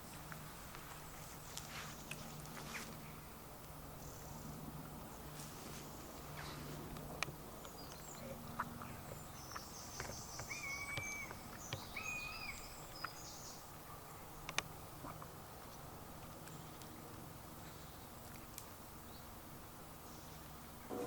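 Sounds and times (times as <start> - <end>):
low steady hum: 0.0 - 21.0
birds singing: 0.9 - 20.9.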